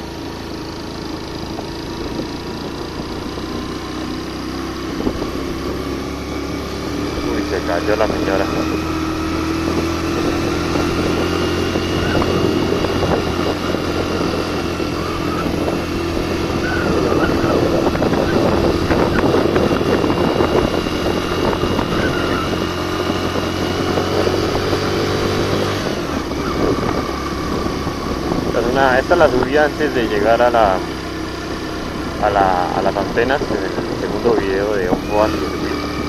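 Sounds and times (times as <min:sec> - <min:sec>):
motorcycle engine under load: 0:00.0 - 0:36.0.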